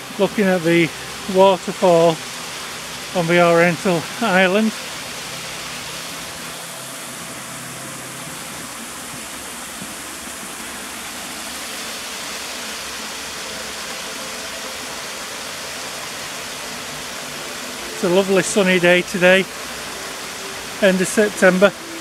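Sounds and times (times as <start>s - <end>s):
waterfall splashing into pool: 0.0s - 22.0s.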